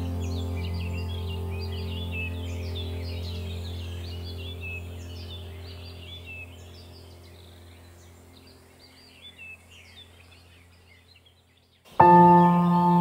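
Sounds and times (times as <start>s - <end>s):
low music drone: 0.0s - 10.8s, 12.0s - 13.0s
small birds chirping: 0.0s - 13.0s.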